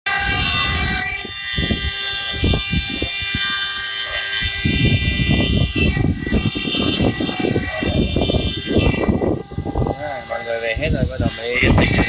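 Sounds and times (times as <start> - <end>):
spindle motors whining: 0.1 - 12.0.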